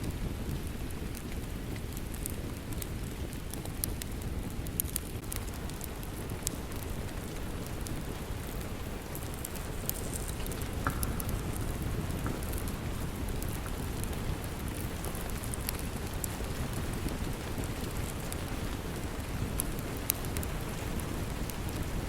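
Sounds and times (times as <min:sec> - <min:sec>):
steady rain: 0:00.0 - 0:22.0
wood fire crackling: 0:00.0 - 0:22.0.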